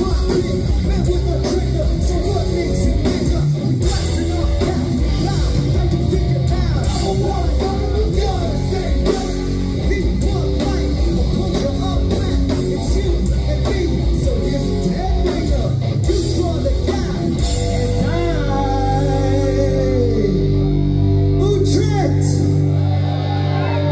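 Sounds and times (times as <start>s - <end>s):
person singing: 0.0s - 20.8s
bass guitar: 0.0s - 23.9s
drums: 0.0s - 23.9s
electric guitars: 0.0s - 23.9s.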